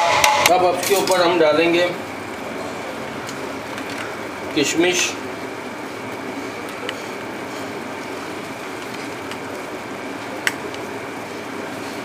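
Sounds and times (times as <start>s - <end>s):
steady kitchen hiss: 0.0s - 12.0s.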